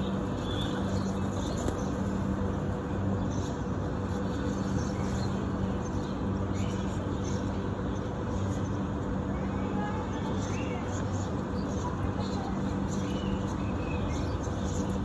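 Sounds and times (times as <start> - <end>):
building machinery hum: 0.0 - 15.0
city traffic drone: 0.0 - 15.0.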